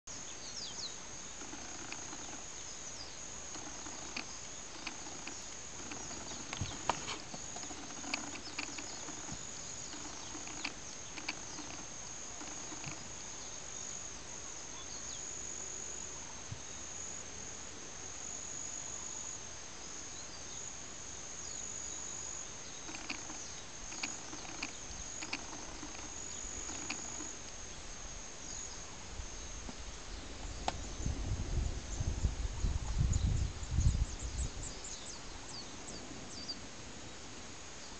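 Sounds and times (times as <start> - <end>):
high-pitched insect chorus: 0.1 - 37.9.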